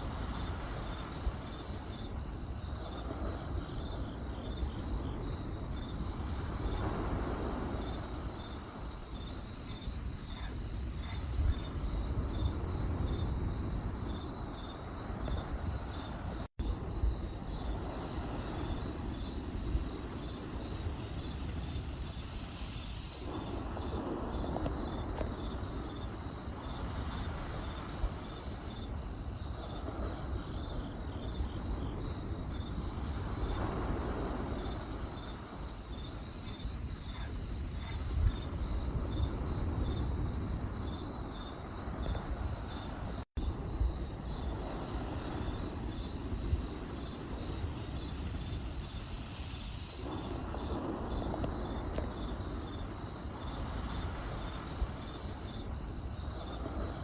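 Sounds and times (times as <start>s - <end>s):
campfire flame rumbling: 0.0s - 57.0s
crickets chirping: 0.0s - 57.0s
fire crackles: 0.0s - 57.0s.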